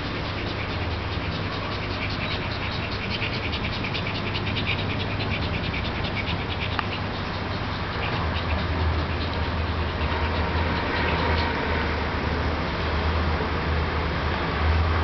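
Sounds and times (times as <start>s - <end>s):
rapid pulsing dog sound: 0.0s - 12.8s
steady low hum: 0.0s - 15.0s.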